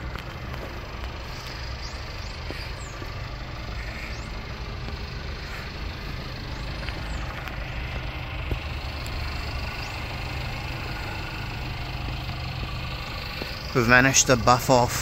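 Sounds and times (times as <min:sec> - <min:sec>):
car engine idling hum: 0:00.0 - 0:15.0.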